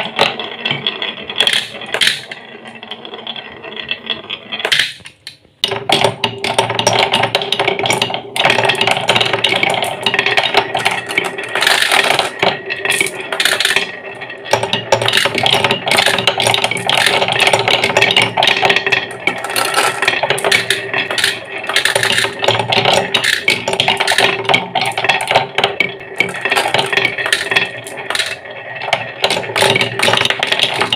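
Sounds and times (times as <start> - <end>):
marbles clattering down wooden run: 0.0 - 30.9
mechanical hum: 0.0 - 30.9.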